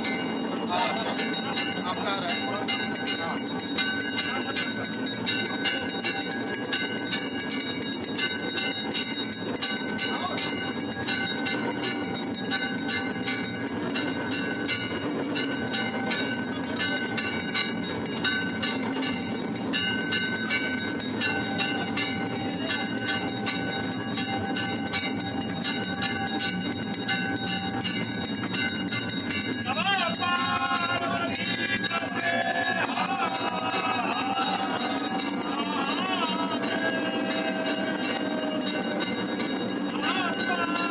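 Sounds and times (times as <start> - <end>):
temple bells ringing: 0.0 - 40.9.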